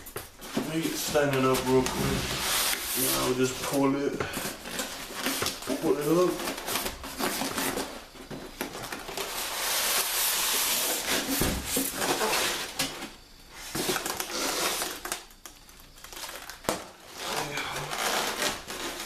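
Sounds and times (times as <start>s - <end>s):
packaging rustling: 0.0s - 19.0s.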